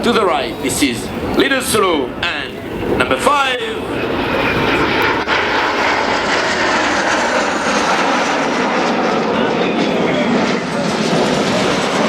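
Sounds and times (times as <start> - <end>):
jet aircraft passing low: 0.0 - 12.0.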